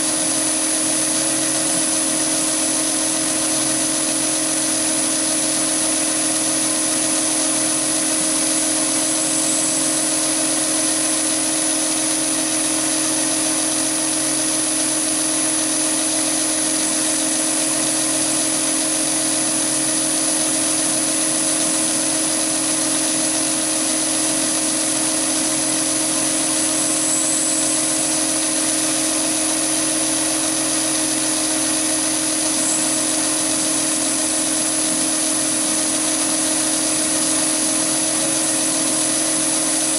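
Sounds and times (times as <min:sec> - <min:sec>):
high cutting whine: 0:00.0 - 0:39.9
lathe machine hum: 0:00.0 - 0:39.9.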